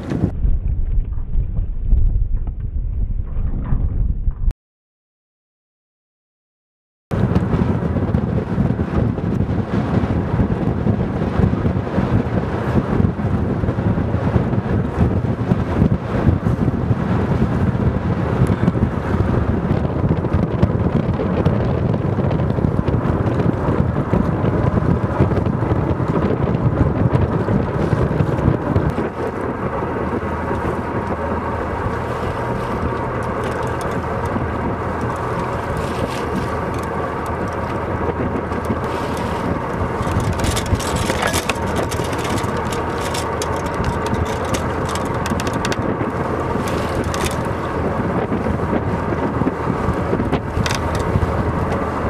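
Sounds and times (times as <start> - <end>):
wind buffeting microphone: 0.0 - 4.5, 7.1 - 52.0
water rushing past hull: 7.2 - 52.0.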